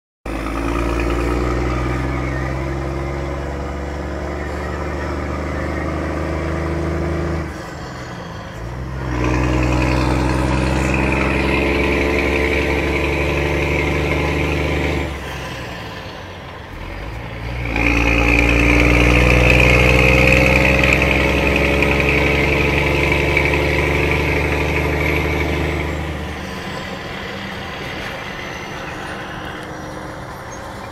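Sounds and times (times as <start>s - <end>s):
truck engine revving and idling: 0.3s - 30.9s.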